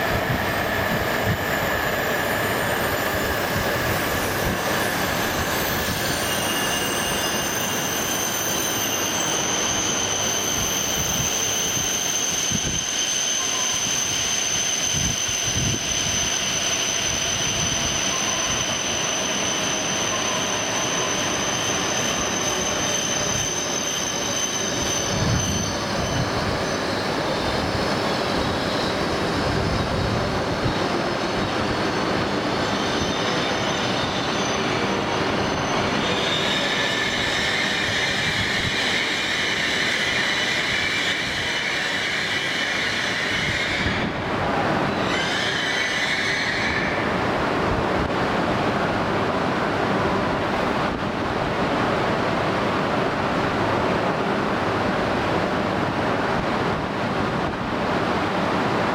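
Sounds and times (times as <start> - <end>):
high squealing hiss: 0.0 - 47.2
train standing at platform: 0.0 - 58.9.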